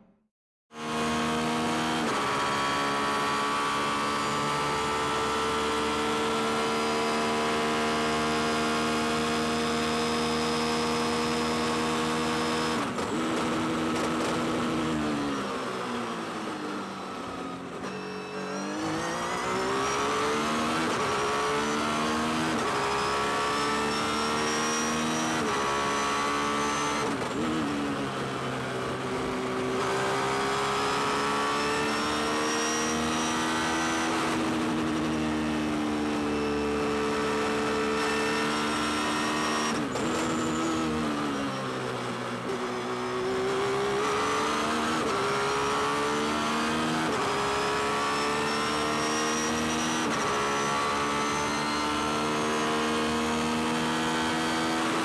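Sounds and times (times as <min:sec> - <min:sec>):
race car engine at full throttle: 0:00.7 - 0:55.0.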